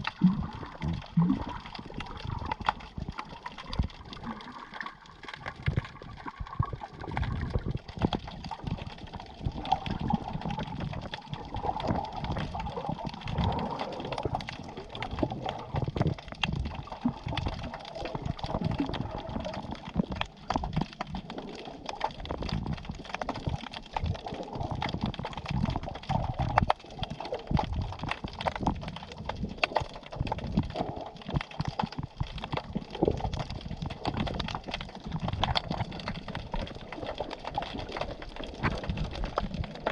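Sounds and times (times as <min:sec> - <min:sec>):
water sloshing and gurgling underwater: 0:00.0 - 0:39.9.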